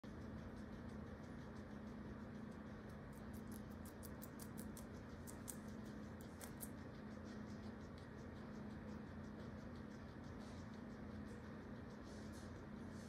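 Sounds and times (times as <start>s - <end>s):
guinea pig chewing: 0.0s - 13.0s.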